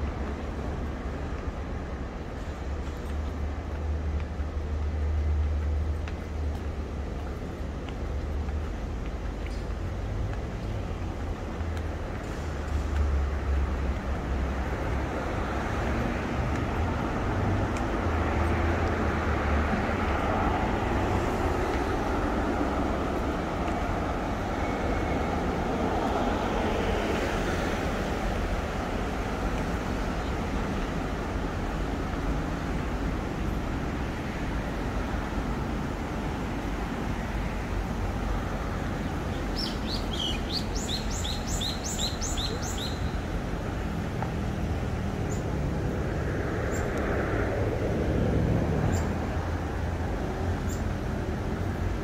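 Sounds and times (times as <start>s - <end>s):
city traffic rumble: 0.0s - 52.0s.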